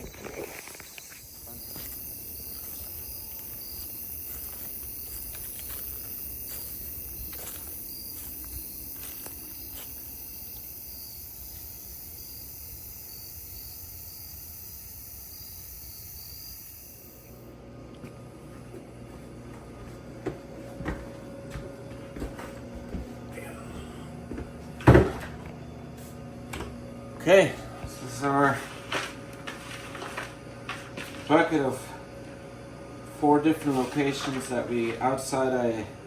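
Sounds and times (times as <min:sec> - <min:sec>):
insects chirping: 0:00.0 - 0:17.6, 0:23.4 - 0:36.0.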